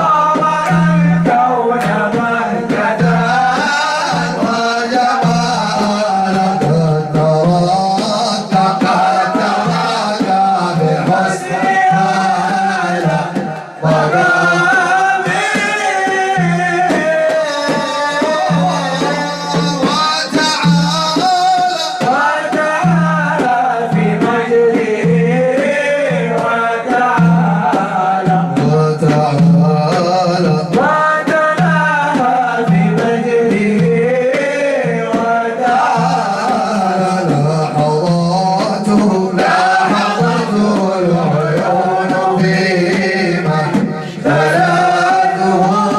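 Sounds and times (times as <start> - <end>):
man singing devotional song: 0.0 - 45.9.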